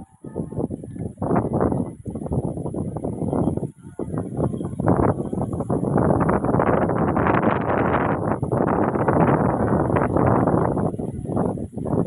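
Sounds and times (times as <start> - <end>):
wind buffeting microphone: 0.0 - 12.0
wind rushing through palm fronds: 0.0 - 12.0.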